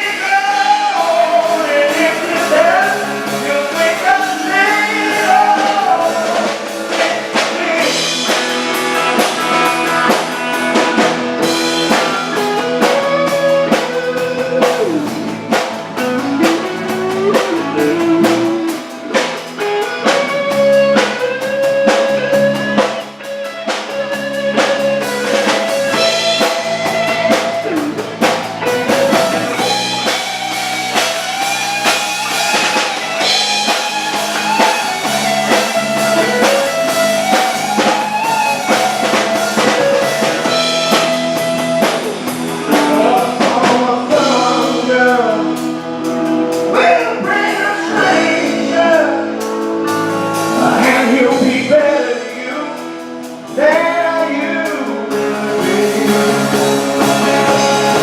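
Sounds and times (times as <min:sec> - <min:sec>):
backing instruments: 0:00.0 - 0:58.0
drum kit: 0:00.0 - 0:58.0
guitar lead with bending notes: 0:00.0 - 0:58.0.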